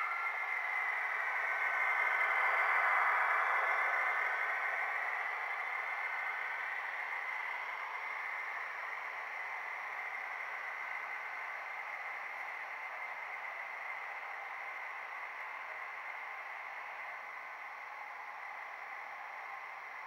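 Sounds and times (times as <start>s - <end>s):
faint steady whine: 0.0s - 20.0s
model train running on track: 0.0s - 20.0s.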